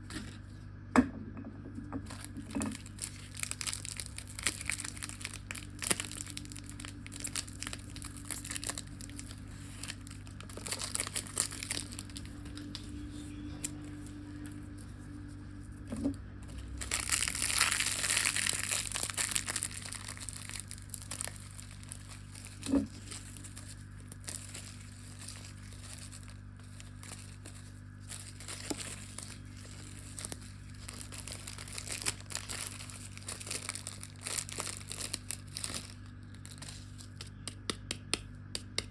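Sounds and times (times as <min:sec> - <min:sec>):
steady low hum: 0:00.0 - 0:38.9
wrappers crinkling: 0:02.1 - 0:37.4.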